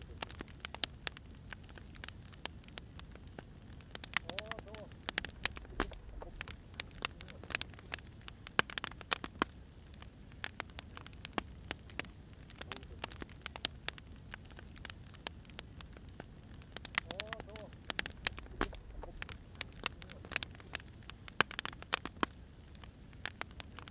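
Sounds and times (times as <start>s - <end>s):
firewood crackling and popping: 0.0s - 23.9s
low rumble of fire: 0.0s - 23.9s.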